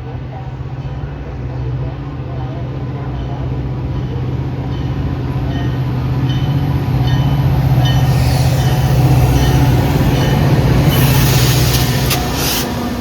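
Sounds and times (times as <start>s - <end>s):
diesel locomotive engine humming: 0.0s - 13.0s.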